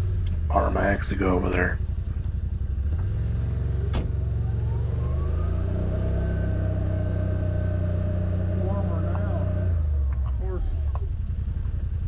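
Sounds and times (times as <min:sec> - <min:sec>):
vehicle engine whining: 0:00.0 - 0:12.0.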